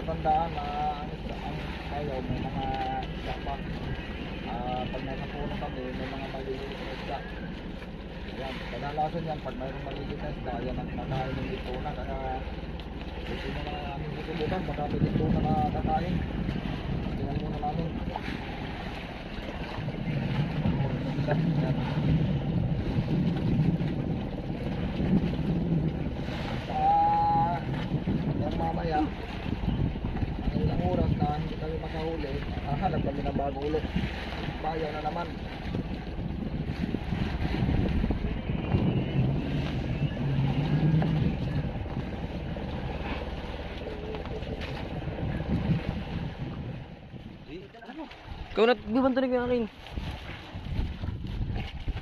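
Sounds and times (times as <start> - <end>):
boat engine humming: 0.0 - 52.0
water noise: 0.0 - 52.0
wind: 0.0 - 52.0.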